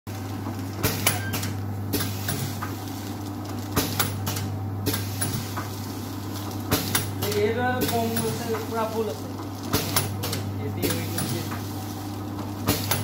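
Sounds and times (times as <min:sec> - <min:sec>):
packing machine hum: 0:00.1 - 0:13.0.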